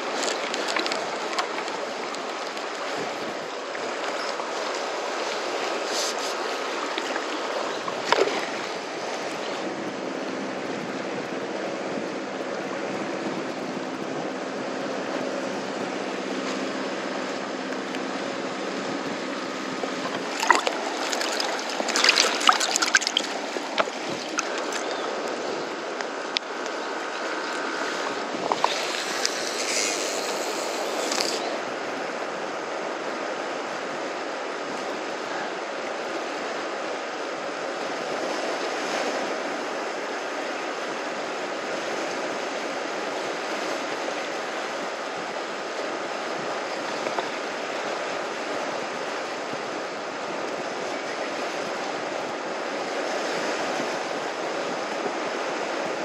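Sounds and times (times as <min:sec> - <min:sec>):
sea washing at shore: 0:00.0 - 0:56.0.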